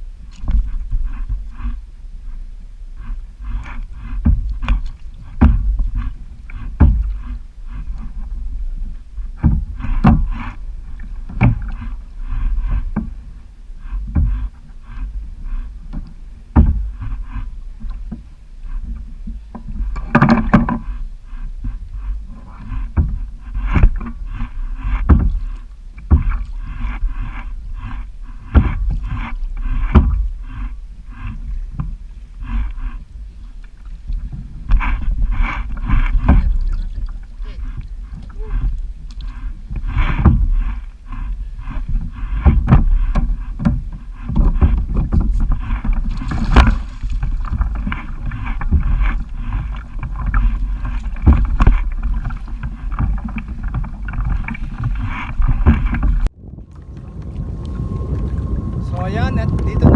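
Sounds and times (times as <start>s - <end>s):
wind rumble on microphone: 0.0s - 59.9s
water slapping against kayak: 0.2s - 59.9s.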